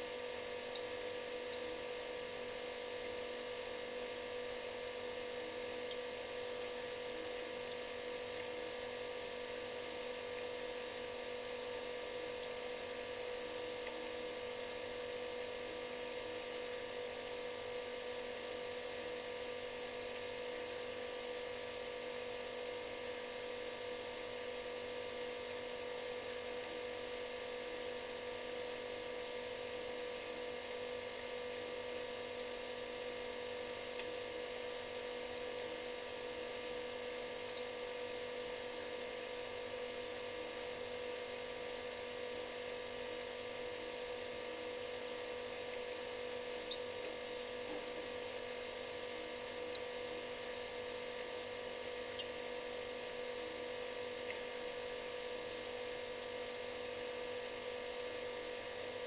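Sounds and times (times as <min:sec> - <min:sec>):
refrigerator hum: 0:00.0 - 0:59.0.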